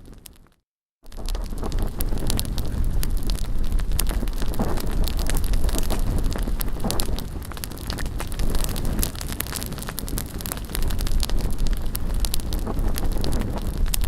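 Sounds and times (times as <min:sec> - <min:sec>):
bonfire crackling and popping: 0:00.0 - 0:14.0
wind buffeting microphone: 0:01.1 - 0:14.0.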